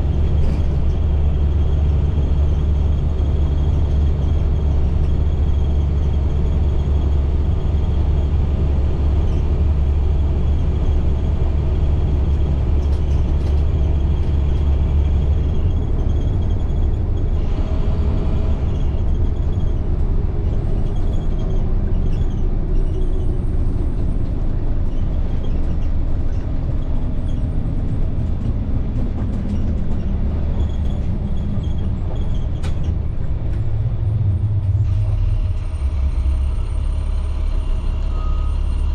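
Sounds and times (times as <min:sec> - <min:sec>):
diesel bus engine rumbling: 0:00.0 - 0:38.9.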